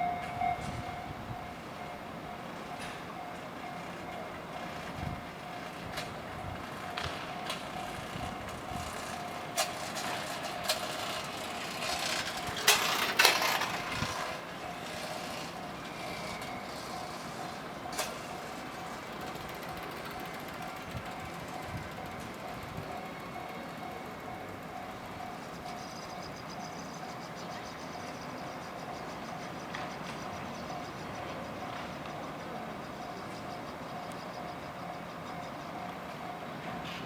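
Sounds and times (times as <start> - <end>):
level-crossing warning bell: 0.0 - 37.0
train wheels clacking: 0.0 - 37.0.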